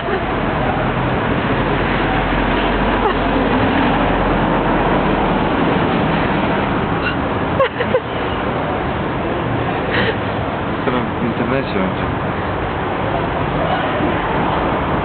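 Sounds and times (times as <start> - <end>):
road traffic roar: 0.0 - 15.0.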